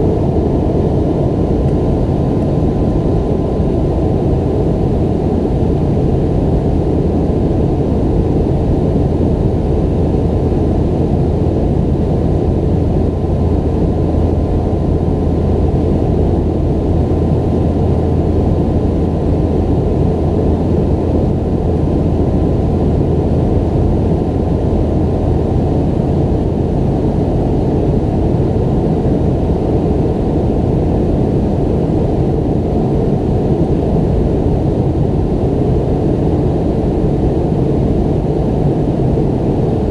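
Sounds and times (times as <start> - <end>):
airliner cabin drone: 0.0 - 39.9
faint steady engine whine: 0.0 - 39.9.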